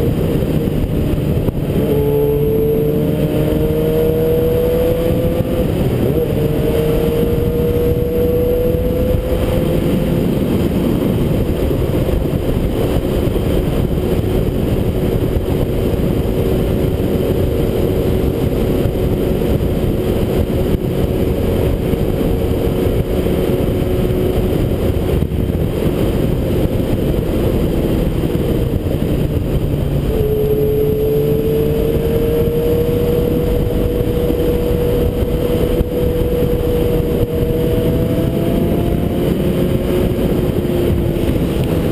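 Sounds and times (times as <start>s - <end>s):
motorcycle engine running: 0.0s - 41.9s
wind rush: 0.0s - 41.9s.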